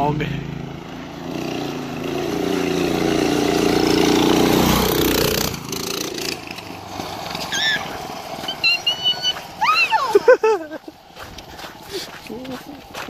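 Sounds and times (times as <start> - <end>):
go-kart engine passing: 0.0 - 13.0.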